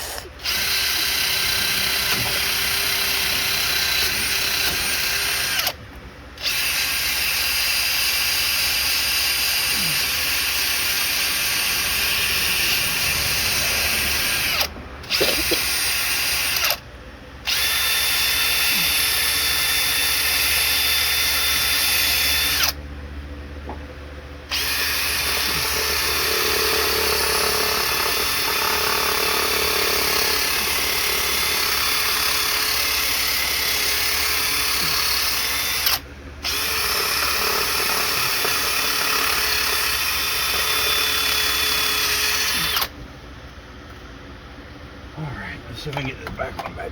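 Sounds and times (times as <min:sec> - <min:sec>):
power drill running: 0:00.0 - 0:05.8, 0:06.4 - 0:16.8, 0:17.4 - 0:22.8, 0:24.5 - 0:43.0.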